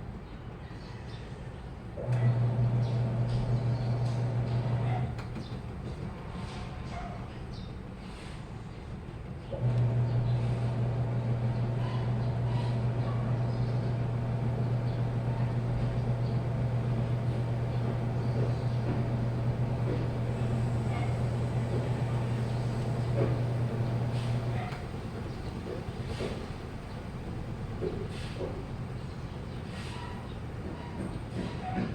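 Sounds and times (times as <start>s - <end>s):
washing machine humming: 2.0s - 6.2s, 9.5s - 31.9s.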